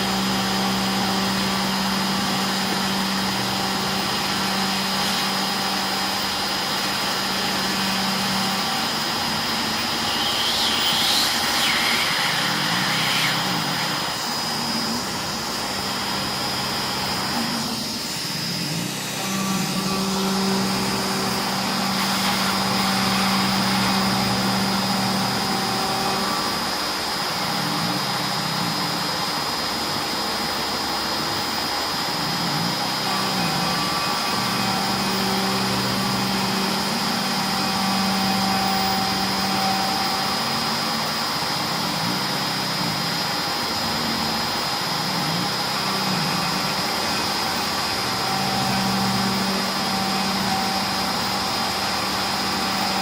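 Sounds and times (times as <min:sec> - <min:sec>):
stepper motors humming: 0:00.0 - 0:29.1, 0:31.4 - 0:53.0
spindle high whine: 0:00.0 - 0:53.0.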